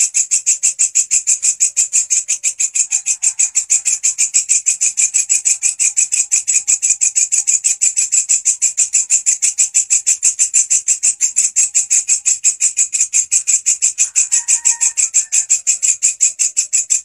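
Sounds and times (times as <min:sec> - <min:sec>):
katydid stridulating: 0:00.0 - 0:17.0.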